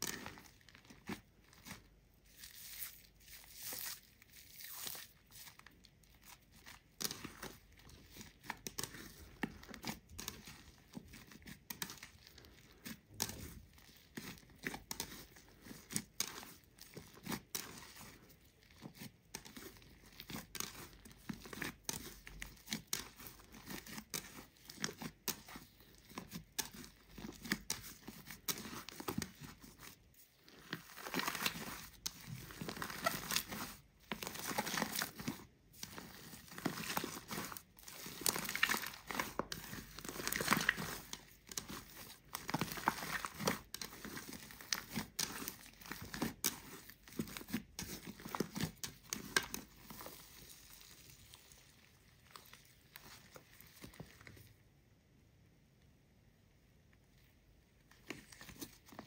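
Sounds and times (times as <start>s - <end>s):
slime squishing and crackling: 0.0s - 54.6s, 57.8s - 59.0s.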